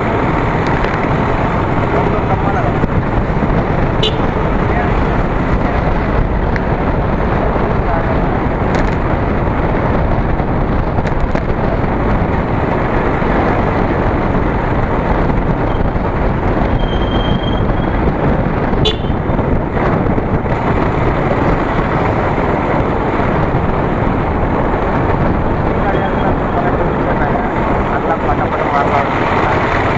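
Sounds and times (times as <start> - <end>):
motorcycle road noise: 0.0 - 29.9
wind rushing over microphone: 0.0 - 29.9.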